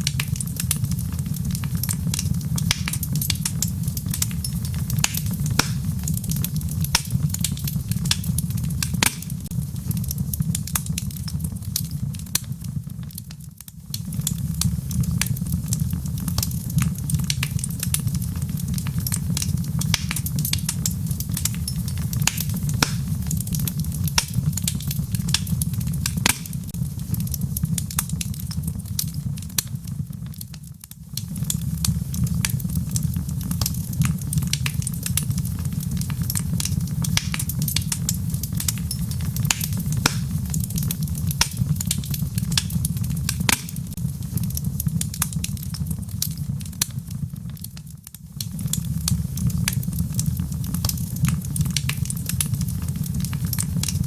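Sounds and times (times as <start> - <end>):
low fire rumble: 0.0 - 54.0
wood fire crackling: 0.0 - 54.0.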